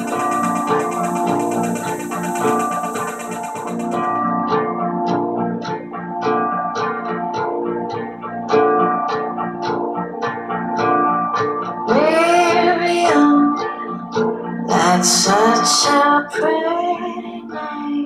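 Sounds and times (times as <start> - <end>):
plucked guitar music with beat: 0.0 - 18.0.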